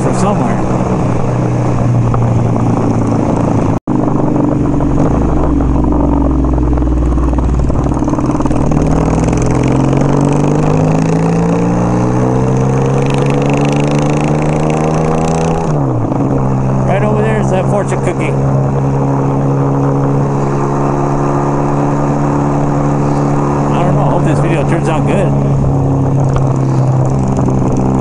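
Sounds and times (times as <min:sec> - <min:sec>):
motorcycle engine: 0:00.0 - 0:28.0
wind noise: 0:00.0 - 0:28.0.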